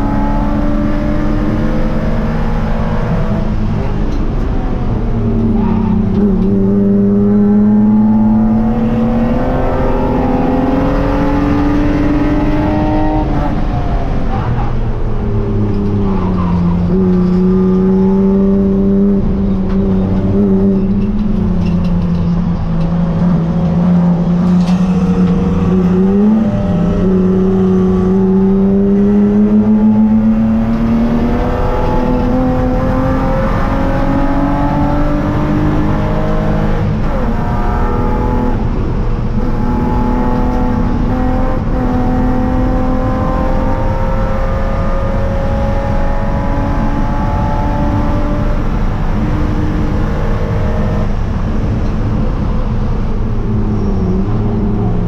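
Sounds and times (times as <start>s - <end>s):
race car engine revving: 0.0s - 55.0s
road and tyre noise: 0.0s - 55.0s.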